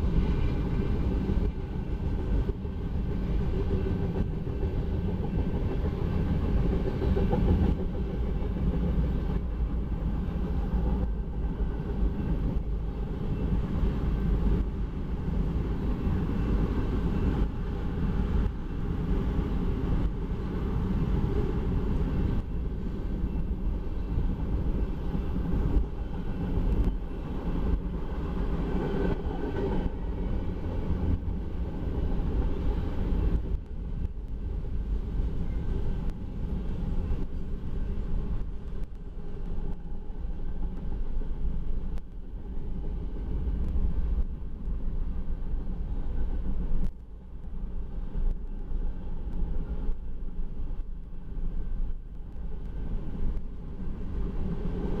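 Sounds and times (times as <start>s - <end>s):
freight cars rumbling on rails: 0.0s - 55.0s.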